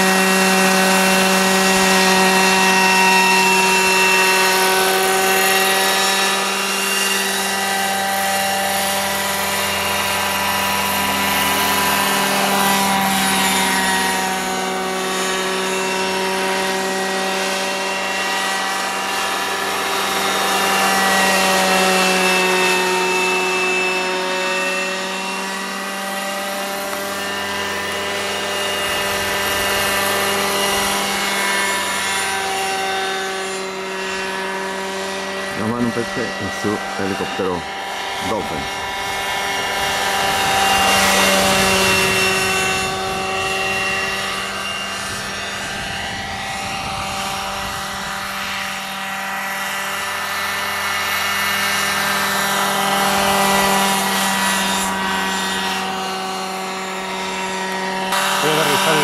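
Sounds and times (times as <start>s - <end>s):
model helicopter whining: 0.0s - 59.0s.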